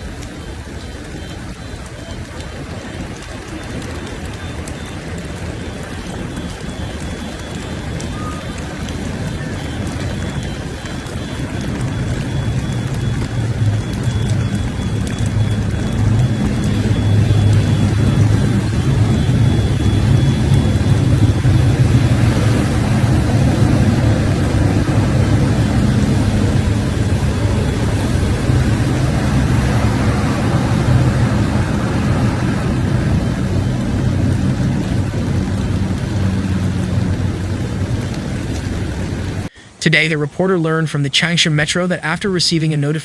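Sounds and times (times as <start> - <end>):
vehicle engine humming: 0.0 - 39.5
constant rushing noise: 0.0 - 43.0.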